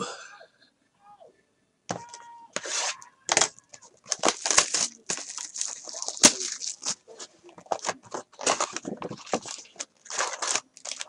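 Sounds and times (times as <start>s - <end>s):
wrappers and cardboard crinkling: 1.9s - 11.0s.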